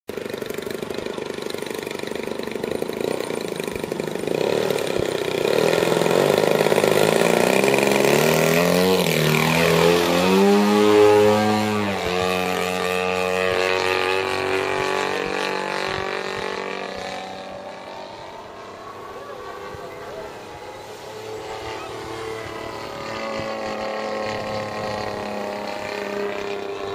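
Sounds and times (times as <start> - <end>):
model plane engine in flight: 0.1 - 26.9.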